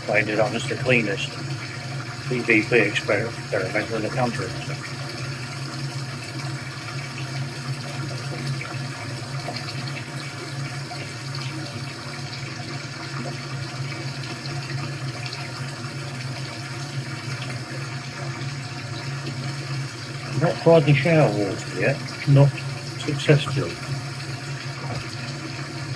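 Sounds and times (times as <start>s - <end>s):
running water through speakers: 0.0s - 25.9s.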